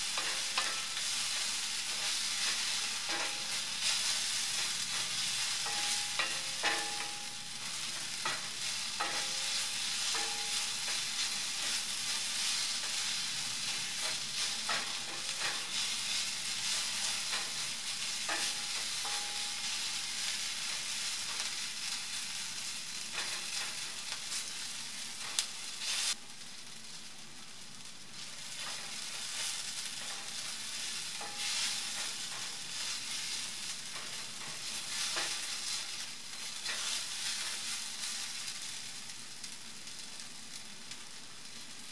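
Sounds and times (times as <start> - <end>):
onions sizzling in oil: 0.0 - 41.9.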